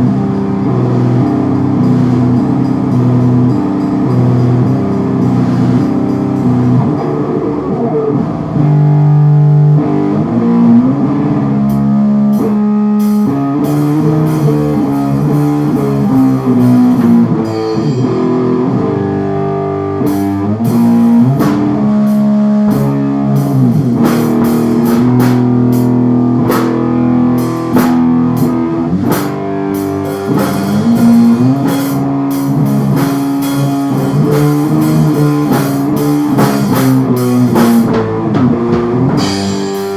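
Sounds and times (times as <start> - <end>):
bass guitar: 0.0 - 39.9
drum kit: 0.0 - 39.9
electric guitar chords: 0.0 - 39.9.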